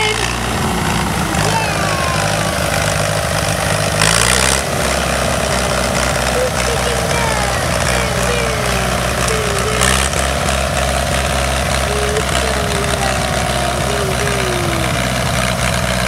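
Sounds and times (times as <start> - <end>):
engine knock: 0.0 - 16.0
tractor engine idling: 0.0 - 16.0.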